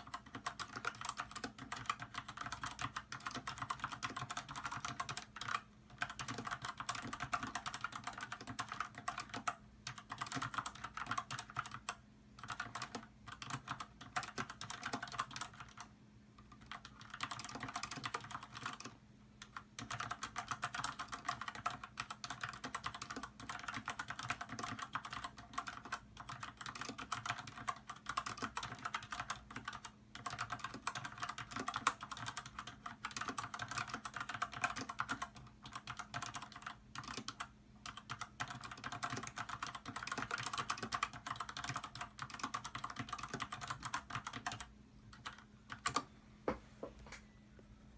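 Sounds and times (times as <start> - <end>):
fast typing on mechanical keyboard: 0.0 - 46.1.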